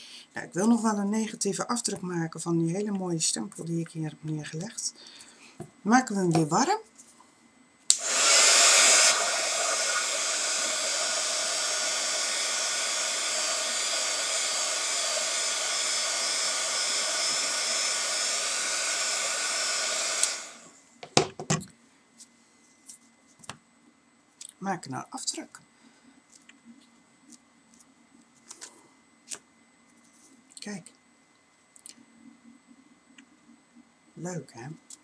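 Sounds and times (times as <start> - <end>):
heat tool fan hiss and whine: 0.0 - 35.0.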